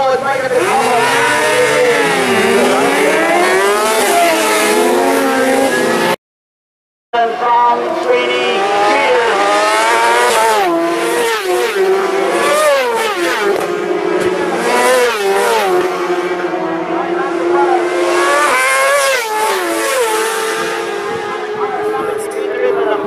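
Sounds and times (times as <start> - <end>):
racing motorcycles passing: 0.1 - 6.2, 7.2 - 23.0.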